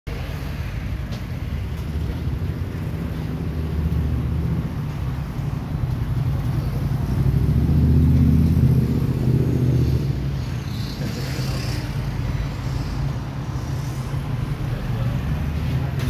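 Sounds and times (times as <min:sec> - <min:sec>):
vehicle engine humming: 0:00.1 - 0:16.0.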